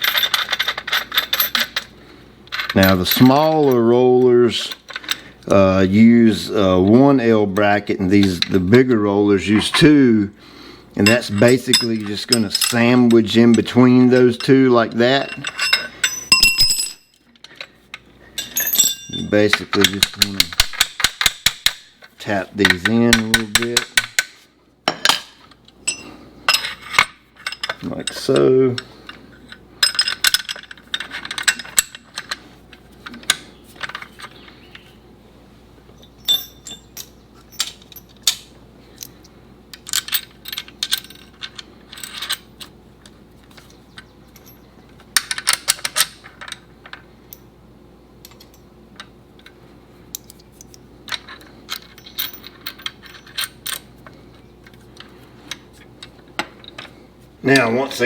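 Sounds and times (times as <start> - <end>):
nuts and bolts clinking on metal: 0.0 - 10.0, 11.0 - 35.0, 35.9 - 58.0.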